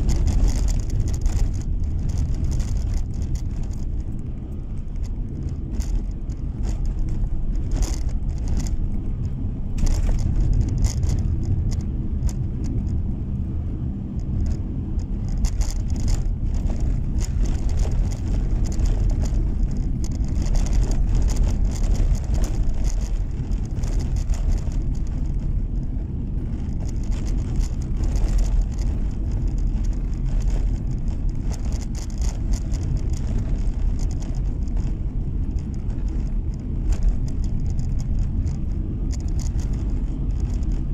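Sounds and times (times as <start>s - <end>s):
car engine and tyre rumble: 0.0s - 40.9s
snow crackling under tyres: 0.0s - 40.9s.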